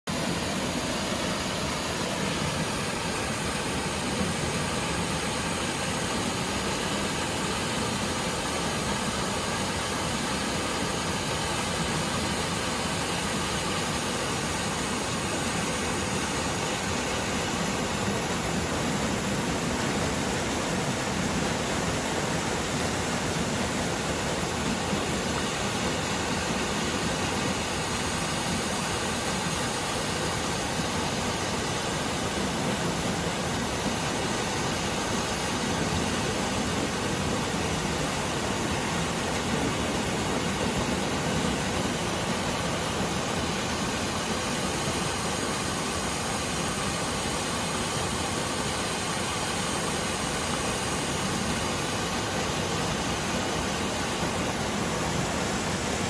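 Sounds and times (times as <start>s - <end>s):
water rushing over boulders: 0.1s - 56.0s.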